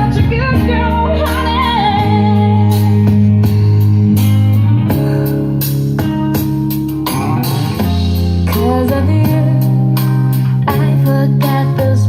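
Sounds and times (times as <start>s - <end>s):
pop song through small speaker: 0.0s - 12.0s.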